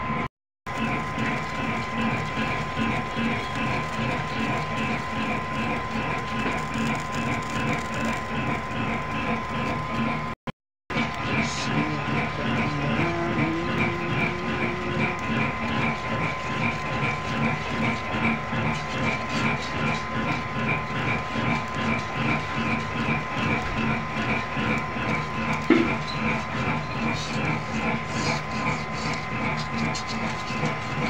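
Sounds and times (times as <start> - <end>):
steady hum: 0.0 - 31.0
wire whisk beating in a bowl: 0.7 - 10.2, 11.0 - 31.0.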